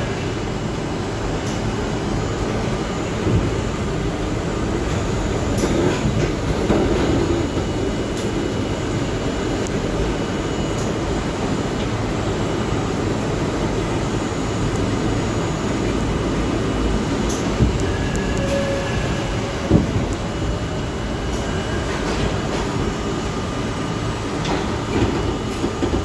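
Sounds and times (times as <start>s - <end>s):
subway wheels rumbling on rails: 0.0s - 26.0s.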